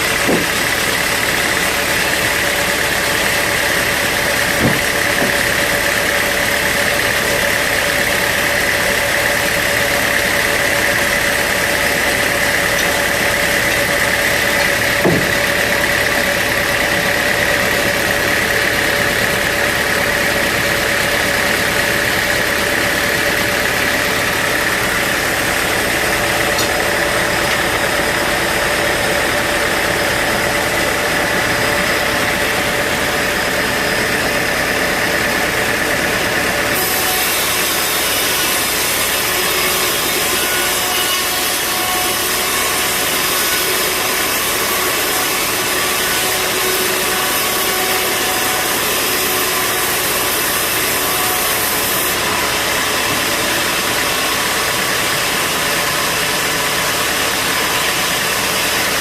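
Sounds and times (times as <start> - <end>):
sawmill drone with high whine: 0.0 - 59.0.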